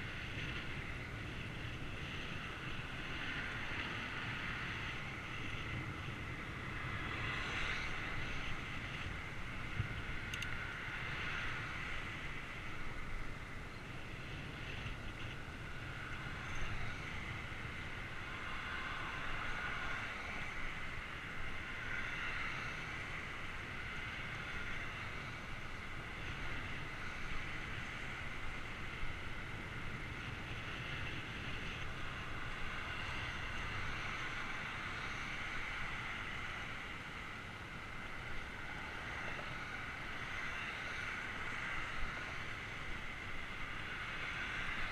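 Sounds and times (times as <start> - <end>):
bicycle rolling noise: 0.0 - 44.9.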